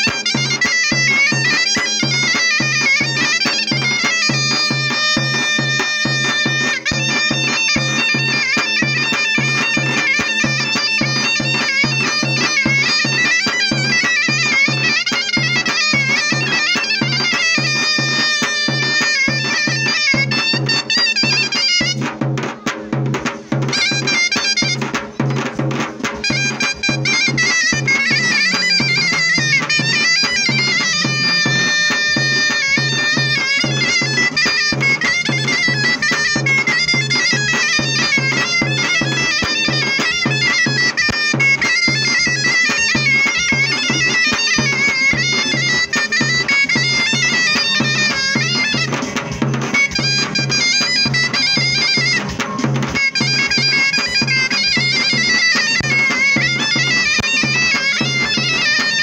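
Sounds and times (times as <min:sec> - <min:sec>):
shawm playing fast folk melody: 0:00.0 - 0:59.0
steady low drum beat: 0:00.0 - 0:59.0.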